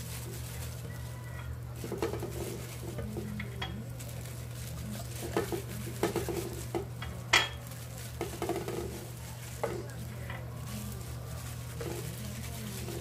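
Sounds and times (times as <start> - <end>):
gloved hands rustling: 0.0 - 13.0.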